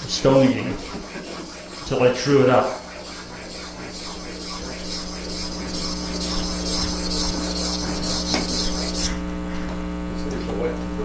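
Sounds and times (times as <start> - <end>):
blade scraping on water stone: 0.0 - 9.2
low electrical hum: 0.0 - 11.0.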